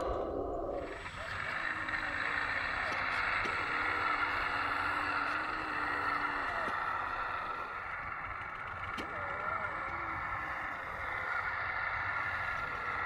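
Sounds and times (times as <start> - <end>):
hydraulic pump whine: 0.0 - 13.0.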